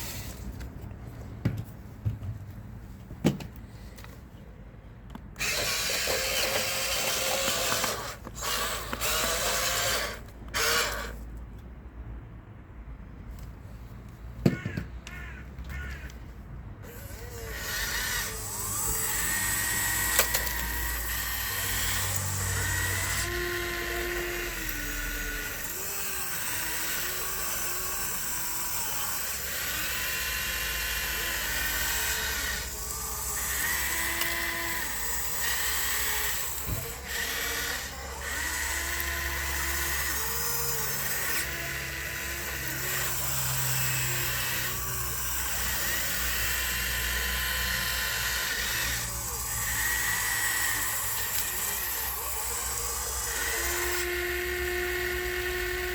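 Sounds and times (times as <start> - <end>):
small electric motors whining: 0.0 - 0.6, 5.1 - 11.4, 14.6 - 55.9.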